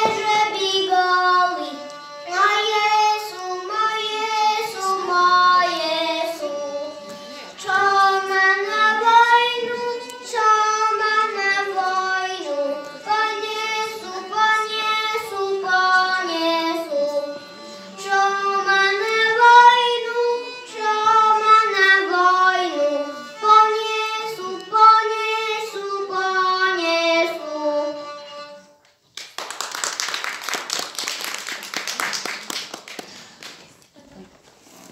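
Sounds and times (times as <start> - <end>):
boy singing folk song: 0.0 - 28.7
violin accompaniment: 0.0 - 29.0.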